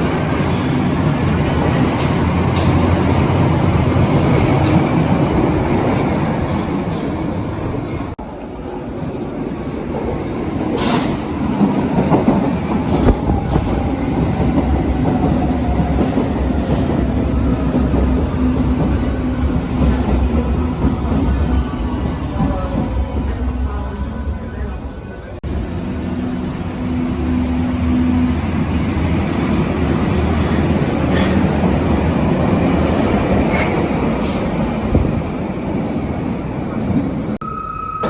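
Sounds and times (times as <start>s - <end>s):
train wheels rumbling on rails: 0.0s - 37.4s.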